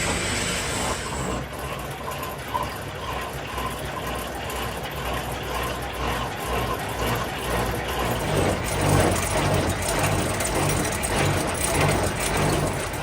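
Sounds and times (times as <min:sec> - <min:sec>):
machinery running with low rumble: 0:00.0 - 0:13.0.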